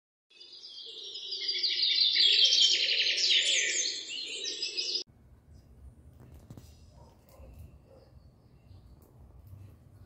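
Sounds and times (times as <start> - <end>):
small birds chirping: 0.3 - 5.6, 6.6 - 9.8.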